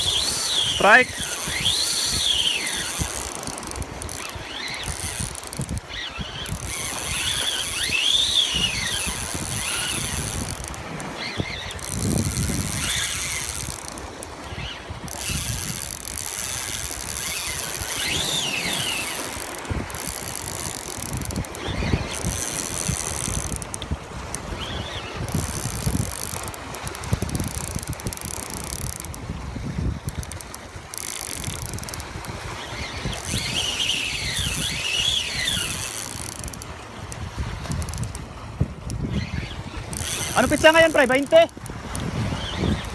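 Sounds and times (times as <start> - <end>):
fishing reel drag whining: 0.0 - 42.9.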